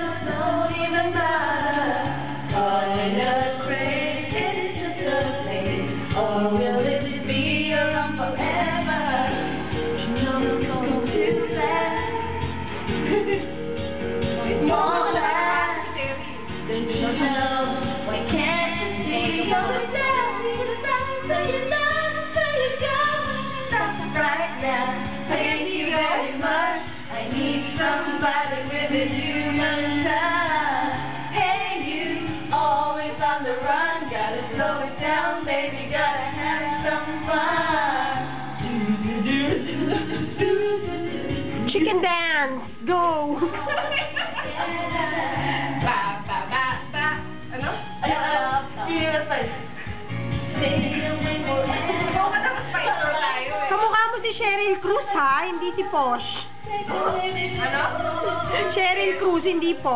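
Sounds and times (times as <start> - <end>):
pop backing track: 0.0 - 59.9
women singing karaoke: 0.0 - 59.9.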